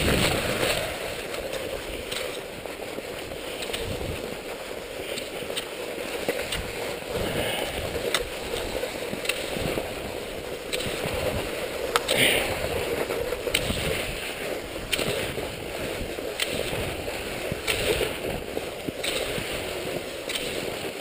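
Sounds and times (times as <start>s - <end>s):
ski poles clicking on snow: 0.0s - 21.0s
skis scraping over snow: 0.0s - 21.0s
wind buffeting microphone: 0.0s - 21.0s.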